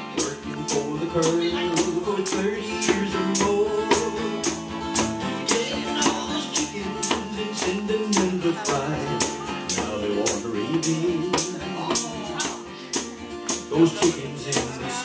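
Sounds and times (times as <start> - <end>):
folk band playing: 0.0 - 15.0
hand drum beat: 0.0 - 15.0
jingling tambourine: 0.0 - 15.0.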